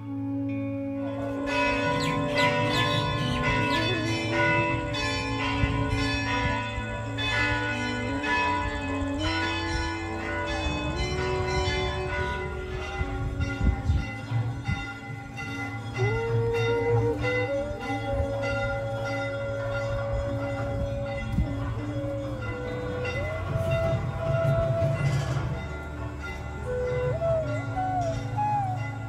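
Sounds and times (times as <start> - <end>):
low drone: 0.0 - 29.0
slow melody: 0.0 - 29.0
bells ringing rapidly: 1.4 - 29.0.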